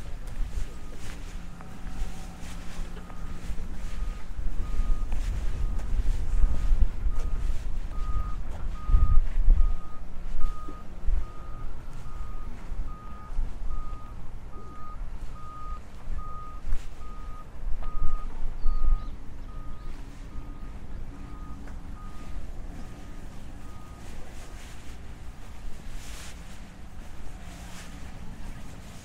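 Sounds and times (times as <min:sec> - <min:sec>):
reversing alarm beeping: 0:00.0 - 0:25.3
low rumble: 0:00.0 - 0:29.0.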